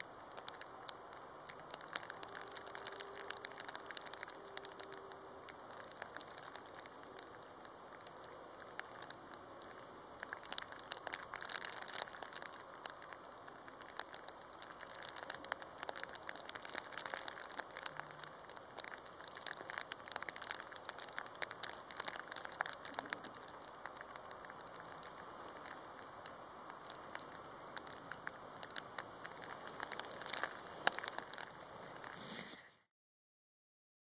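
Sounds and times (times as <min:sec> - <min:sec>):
heavy rain falling: 0:00.0 - 0:32.2
raindrops ticking close by: 0:00.0 - 0:32.2.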